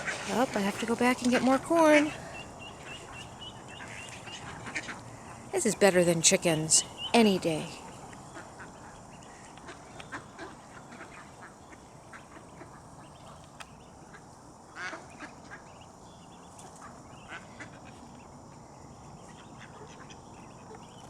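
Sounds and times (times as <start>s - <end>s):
ducks quacking: 0.0s - 15.9s, 16.6s - 18.3s, 19.2s - 21.0s.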